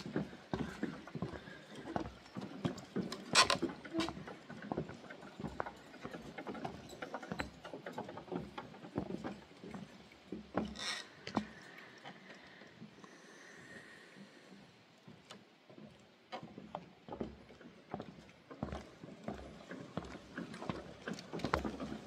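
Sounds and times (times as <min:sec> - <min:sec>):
footsteps on wooden planks: 0:00.0 - 0:12.9, 0:14.2 - 0:22.0.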